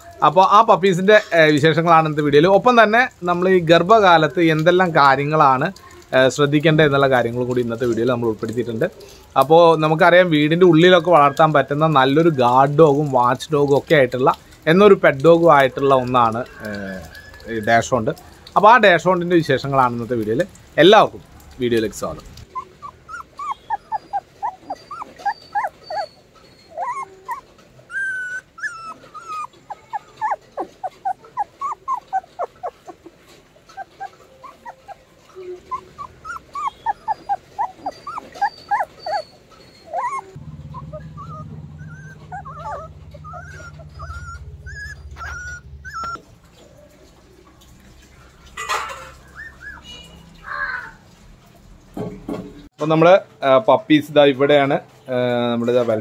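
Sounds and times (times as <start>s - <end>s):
puppies whimpering and squeaking: 0.0s - 20.6s, 21.4s - 51.8s.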